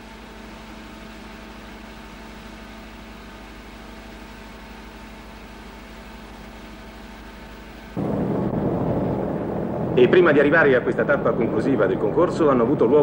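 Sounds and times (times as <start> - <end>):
electrical hum: 2.3 - 13.0.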